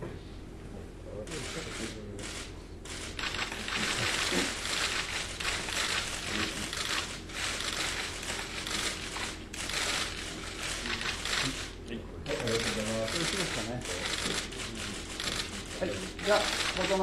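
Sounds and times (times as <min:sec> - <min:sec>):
camera shutters firing in bursts: 0:01.3 - 0:15.8, 0:16.4 - 0:17.0.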